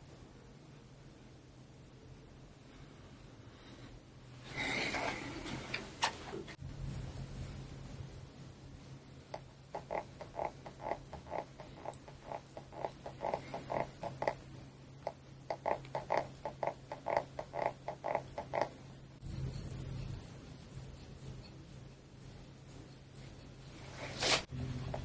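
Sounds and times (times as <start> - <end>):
rhythmic squeaks from massage strokes: 3.6 - 25.0.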